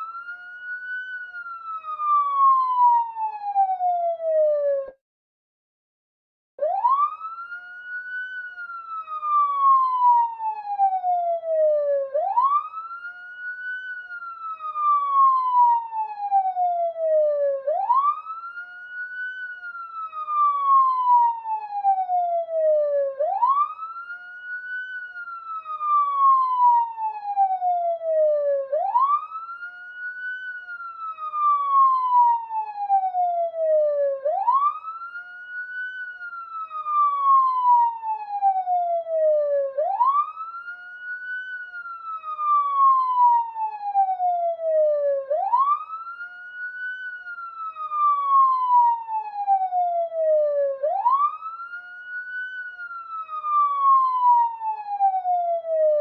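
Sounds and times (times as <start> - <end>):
police siren wailing: 0.0 - 5.0, 6.6 - 56.0.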